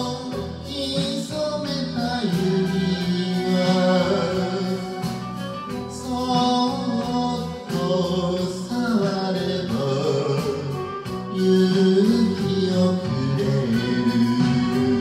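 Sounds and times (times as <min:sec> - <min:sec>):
karaoke backing track: 0:00.0 - 0:15.0
man singing into a microphone: 0:00.0 - 0:15.0.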